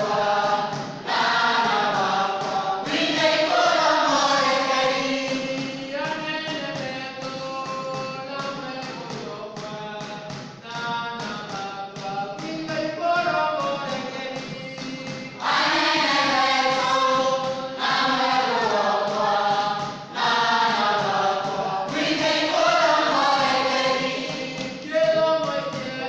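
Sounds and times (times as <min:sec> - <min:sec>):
group singing a chant-like song: 0:00.0 - 0:26.0
light rhythmic taps: 0:00.0 - 0:26.0.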